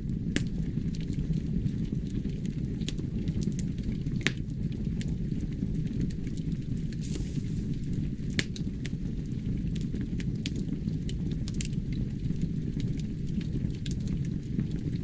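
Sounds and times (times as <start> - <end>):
fire crackles and pops: 0.0 - 15.0
logs burning in fireplace: 0.0 - 15.0.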